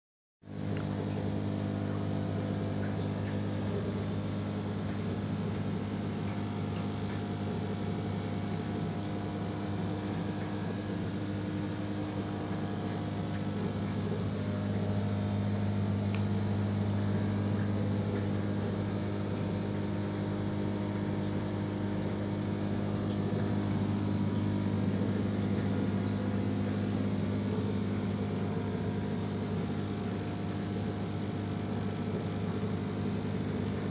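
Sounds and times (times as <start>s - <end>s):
aquarium pump humming: 0.4s - 33.9s.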